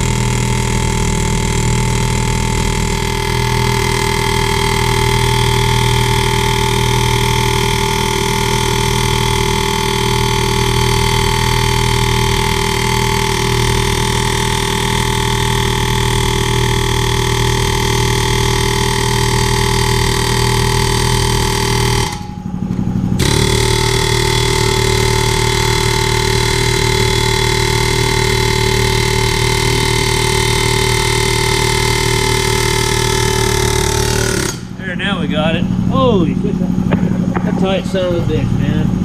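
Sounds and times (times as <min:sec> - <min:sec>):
pneumatic air hammer buzzing: 0:00.0 - 0:34.8.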